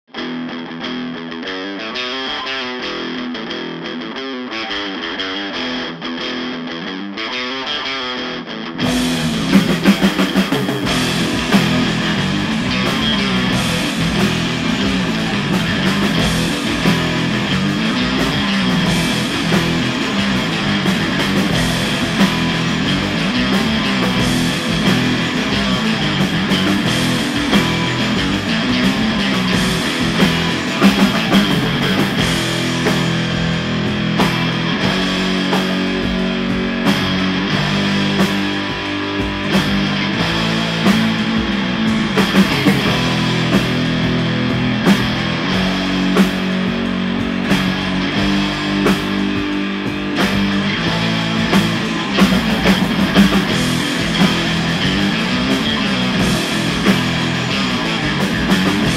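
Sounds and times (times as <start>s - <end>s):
bass guitar: 0.0s - 58.9s
electric guitars: 0.0s - 58.9s
drum kit with cymbals: 8.8s - 58.9s.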